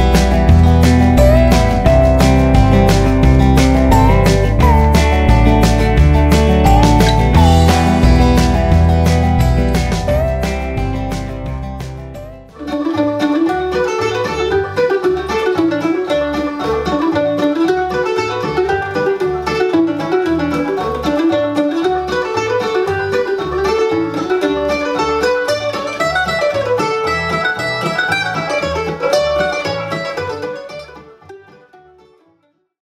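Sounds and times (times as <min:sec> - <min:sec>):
bass line: 0:00.0 - 0:30.6
mandolin melody: 0:00.0 - 0:32.7.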